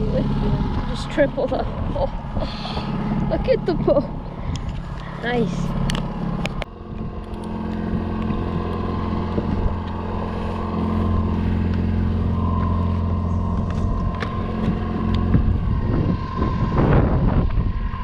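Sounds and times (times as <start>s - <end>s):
outboard motor running: 0.0s - 18.0s
wind on microphone: 0.0s - 18.0s.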